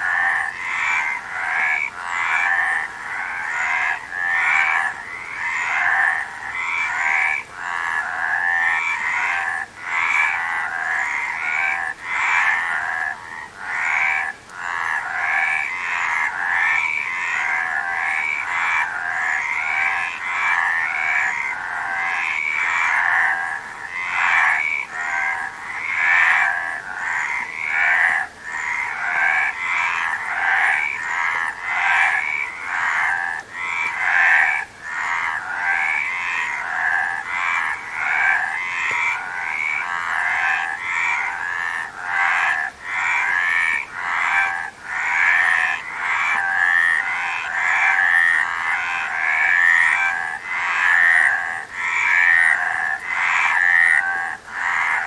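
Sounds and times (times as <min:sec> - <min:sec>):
frogs croaking chorus: 0:00.0 - 0:55.0.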